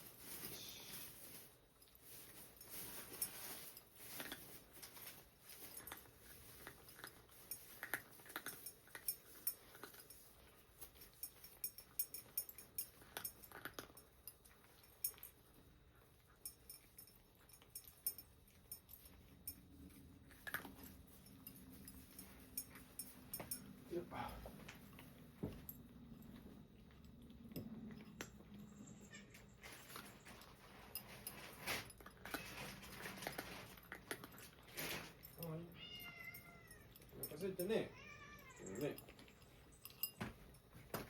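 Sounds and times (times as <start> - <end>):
cats eating from bowls: 0.0 - 41.0.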